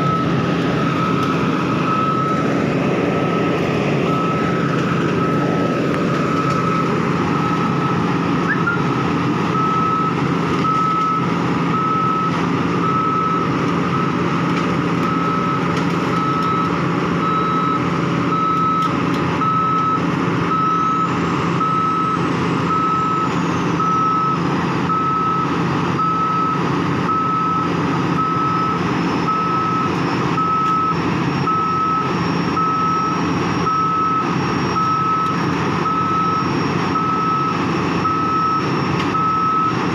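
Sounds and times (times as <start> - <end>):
diesel engine running: 0.0 - 39.9
reversing alarm beeping: 0.0 - 39.9.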